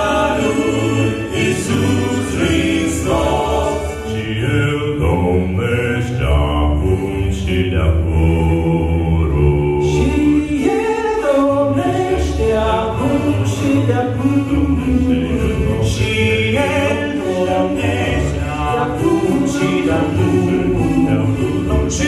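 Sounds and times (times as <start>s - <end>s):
male vocal quartet singing: 0.0s - 22.0s.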